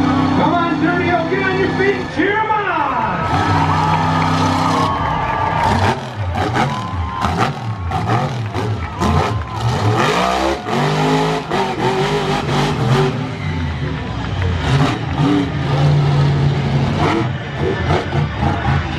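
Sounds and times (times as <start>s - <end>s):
monster truck engine revving: 0.0s - 18.9s.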